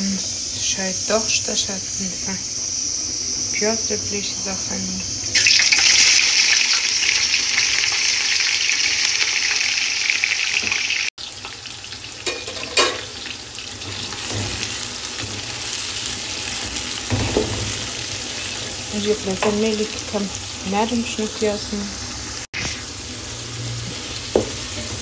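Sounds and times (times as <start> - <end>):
onions sizzling in hot oil: 0.0 - 25.0.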